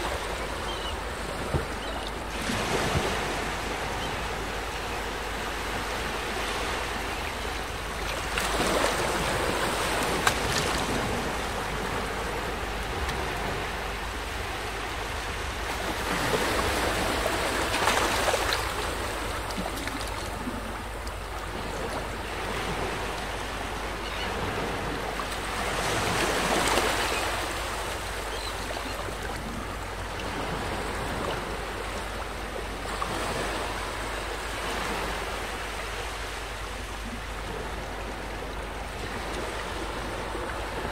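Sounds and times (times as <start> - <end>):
small waves washing on beach: 0.0 - 40.9.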